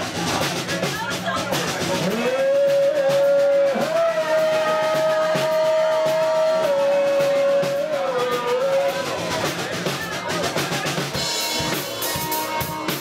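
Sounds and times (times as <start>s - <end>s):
live rock band playing: 0.0s - 13.0s
steady drum beat: 0.0s - 13.0s.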